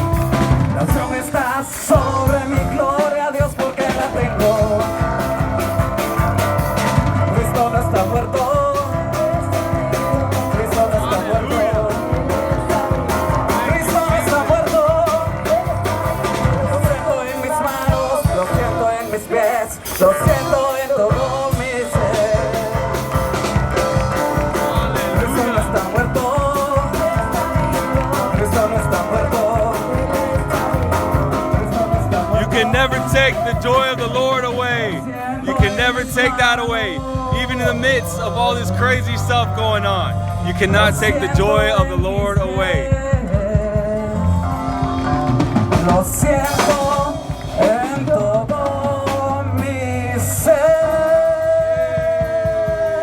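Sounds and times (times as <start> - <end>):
person singing: 0.0 - 53.0
upbeat music with drum beat: 0.0 - 53.0.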